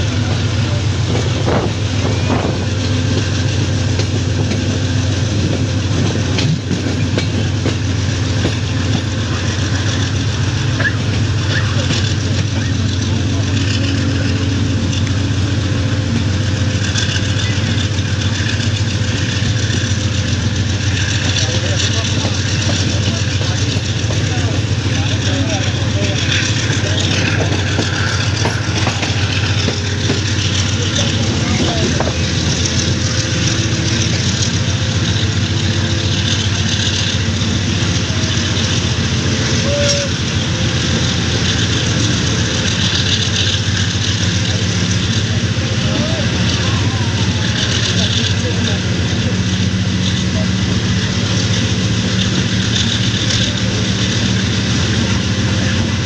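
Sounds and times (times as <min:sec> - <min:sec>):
locomotive engine droning: 0:00.0 - 0:56.0
train rolling rumble: 0:00.0 - 0:56.0.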